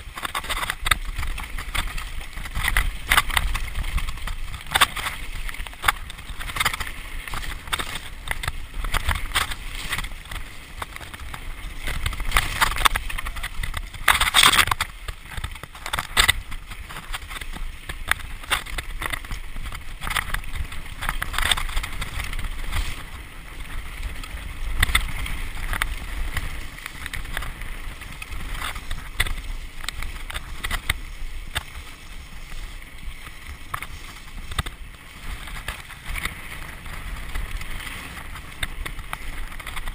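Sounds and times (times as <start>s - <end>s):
bike clattering and rattling: 0.0s - 39.9s
bike tyres rolling over dirt: 0.0s - 39.9s
wind rumble on microphone: 0.0s - 39.9s.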